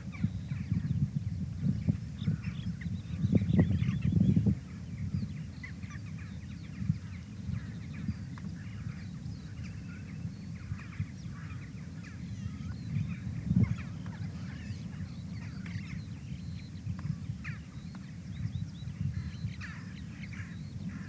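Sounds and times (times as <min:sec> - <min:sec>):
birds chirping and warbling: 0:00.0 - 0:21.0.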